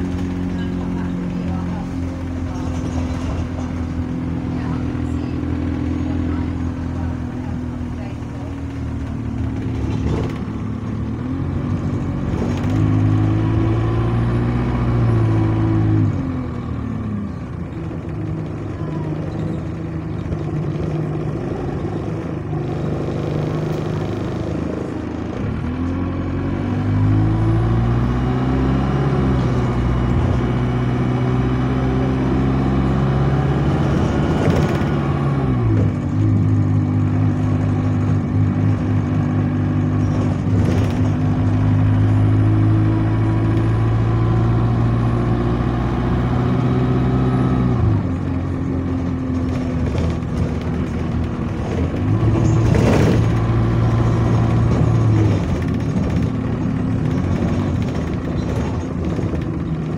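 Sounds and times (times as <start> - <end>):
bus diesel engine accelerating: 0.0 - 59.9.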